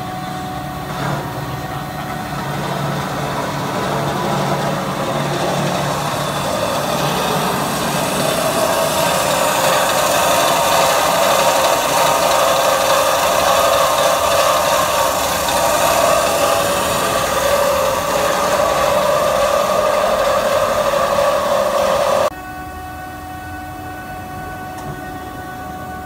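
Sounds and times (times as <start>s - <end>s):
bandsaw running with whine: 0.0s - 22.4s.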